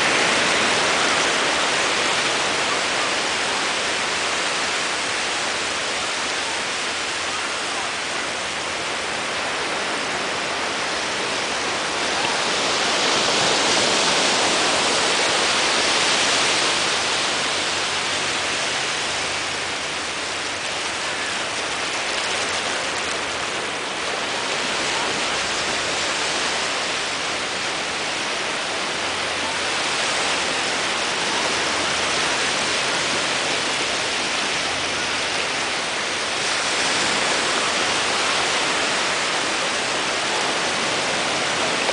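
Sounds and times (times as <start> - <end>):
waves washing up shore: 0.0 - 41.9.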